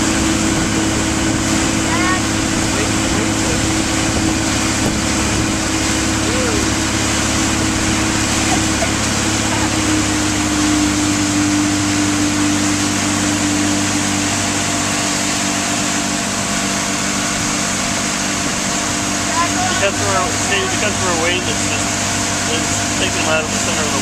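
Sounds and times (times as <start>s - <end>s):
motorboat engine running: 0.0s - 24.0s
water rushing in wake: 0.0s - 24.0s.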